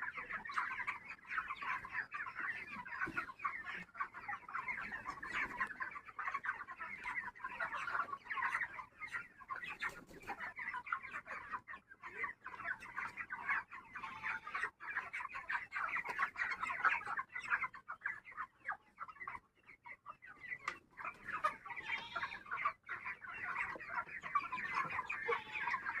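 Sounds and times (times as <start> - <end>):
flock of chickens clucking: 0.0 - 26.0.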